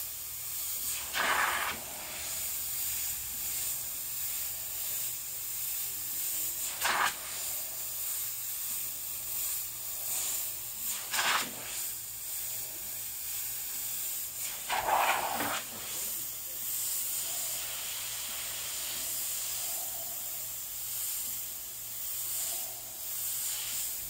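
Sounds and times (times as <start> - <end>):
airbrush hissing: 0.0 - 24.0.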